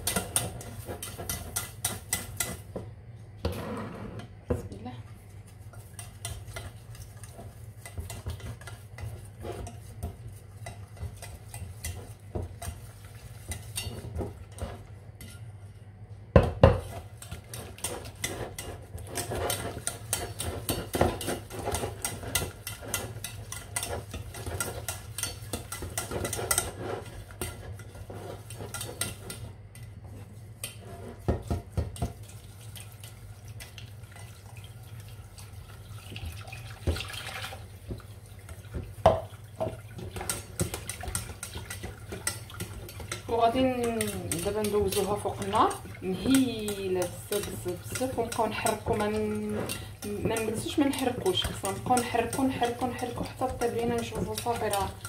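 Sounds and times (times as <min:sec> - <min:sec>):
whisk scraping metal pot: 0:00.0 - 0:02.8, 0:05.1 - 0:15.7, 0:16.6 - 0:55.0.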